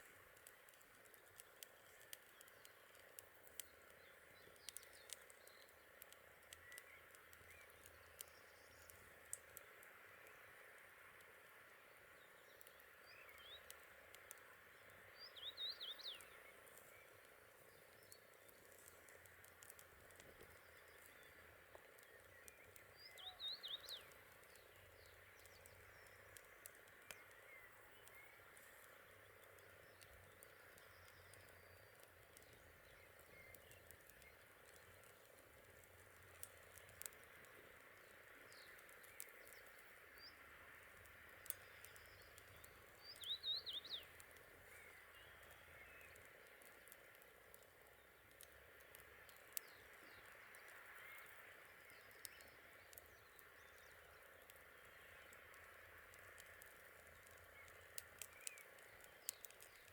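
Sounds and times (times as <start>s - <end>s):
small clicks: 0.2s - 11.3s, 15.9s - 59.9s.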